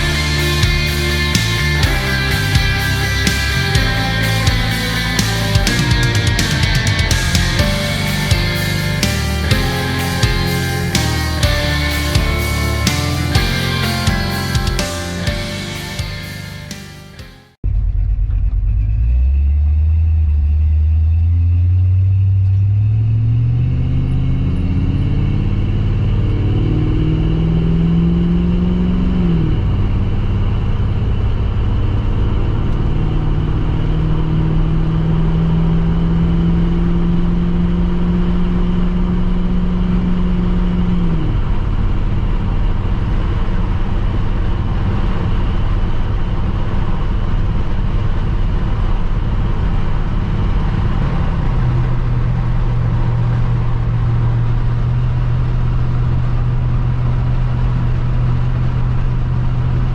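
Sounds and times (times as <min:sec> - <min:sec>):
pickup truck engine accelerating: 0:00.0 - 0:59.9
road rumble: 0:00.0 - 0:59.9.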